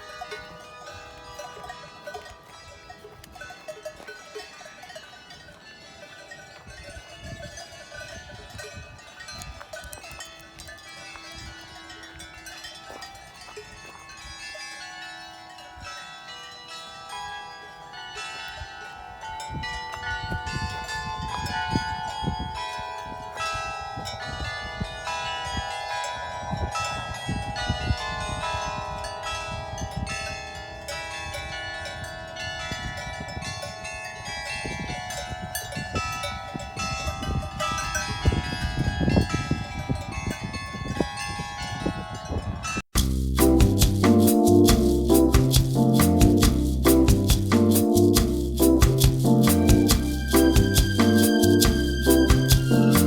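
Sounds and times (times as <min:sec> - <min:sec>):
carillon bells playing a melody: 0:00.0 - 0:53.0
cow bells clanking: 0:00.0 - 0:53.0.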